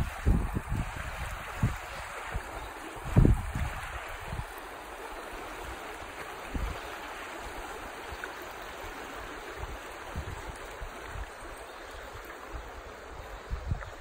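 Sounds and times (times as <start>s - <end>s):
river rushing over rapids: 0.0s - 14.0s.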